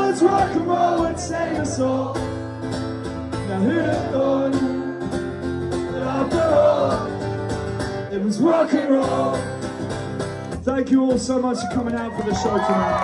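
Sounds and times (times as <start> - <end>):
acoustic guitar strumming: 0.0 - 11.5.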